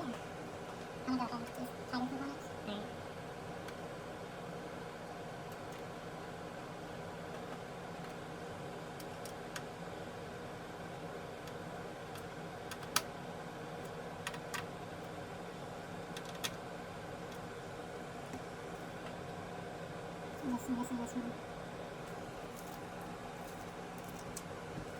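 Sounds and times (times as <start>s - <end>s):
steady background hum: 0.0s - 24.9s.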